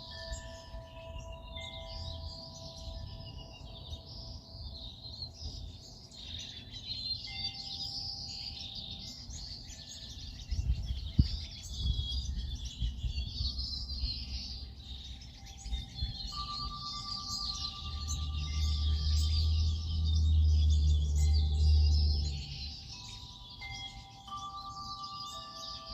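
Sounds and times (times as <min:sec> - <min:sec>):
songbirds chirping and twittering: 0:00.0 - 0:25.9.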